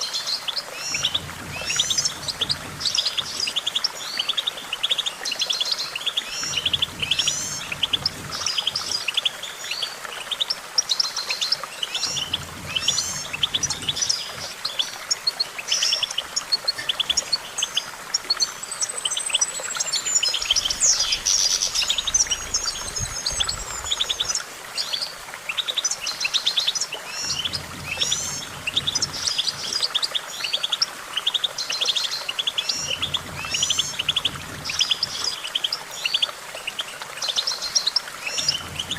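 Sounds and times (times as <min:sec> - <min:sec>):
bird twittering and trilling: 0:00.0 - 0:38.9.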